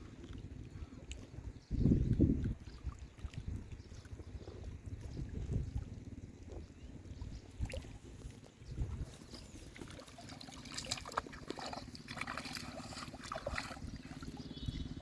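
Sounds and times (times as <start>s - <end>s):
low steady hum: 0.0s - 15.0s
water trickling and splashing: 0.0s - 15.0s.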